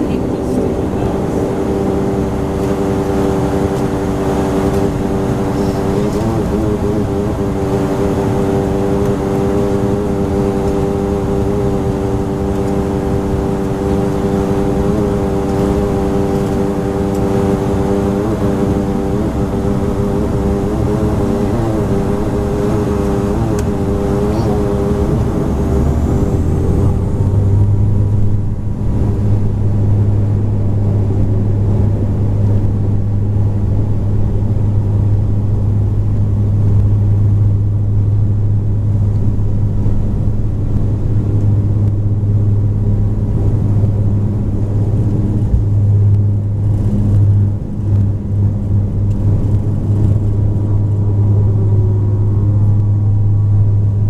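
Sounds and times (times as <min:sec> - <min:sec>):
propeller drone in cabin: 0:00.0 - 0:54.0.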